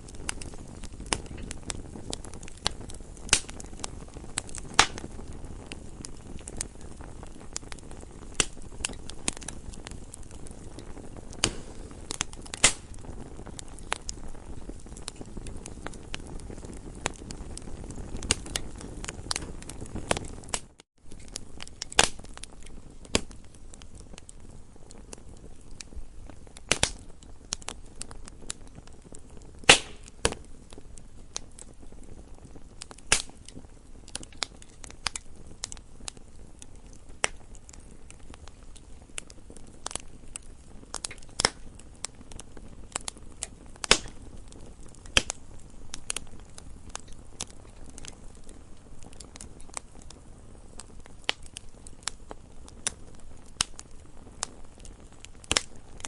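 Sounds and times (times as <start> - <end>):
campfire crackling: 0.0 - 56.0
soft low hiss: 0.0 - 56.0.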